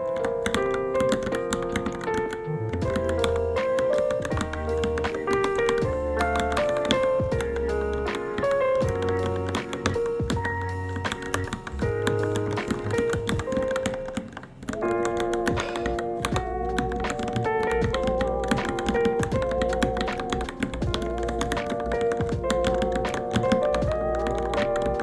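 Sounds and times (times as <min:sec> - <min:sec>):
mechanical keyboard typing: 0:00.0 - 0:25.0
melodic background music: 0:00.0 - 0:25.0.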